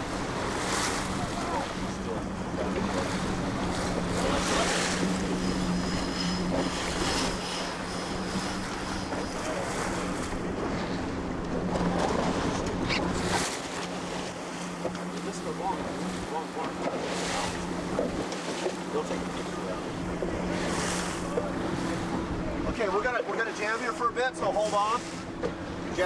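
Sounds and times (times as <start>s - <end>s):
boat motor humming: 0.0s - 26.0s
water splashing around boat: 0.0s - 26.0s.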